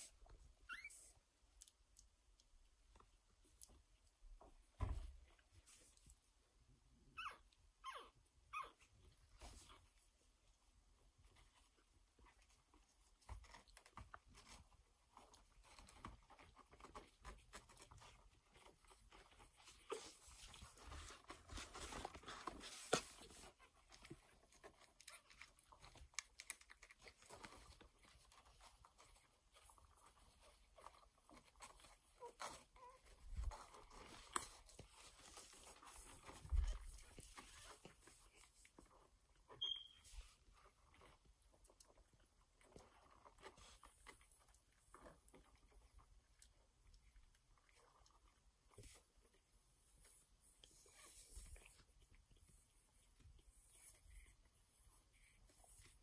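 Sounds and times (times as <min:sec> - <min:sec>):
rustling on blankets: 0:09.0 - 0:56.0.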